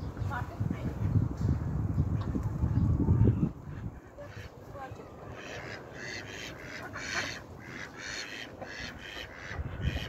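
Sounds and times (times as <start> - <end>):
birds calling: 1.9 - 10.0.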